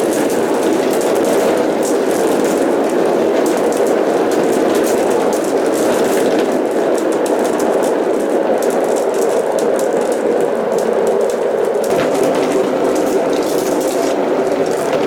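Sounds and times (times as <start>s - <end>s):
marbles rolling on cardboard tracks: 0.0s - 15.0s.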